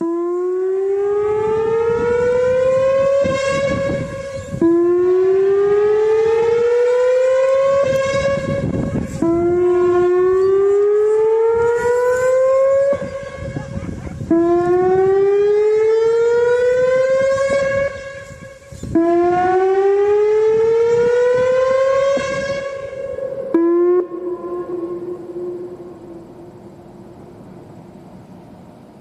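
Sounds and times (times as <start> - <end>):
rising buzzy siren tone: 0.0 - 29.0
quieter held tone: 1.6 - 29.0.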